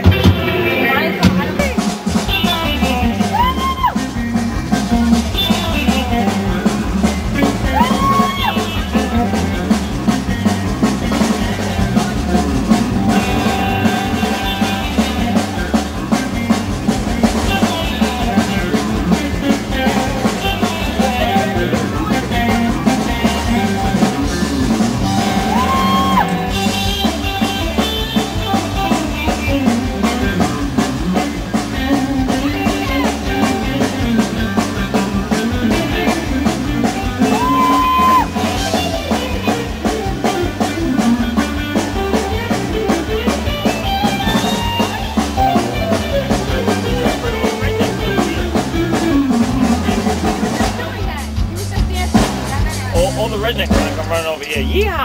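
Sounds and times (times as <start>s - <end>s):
drum kit beat: 0.0s - 55.0s
electric guitar: 0.0s - 55.0s.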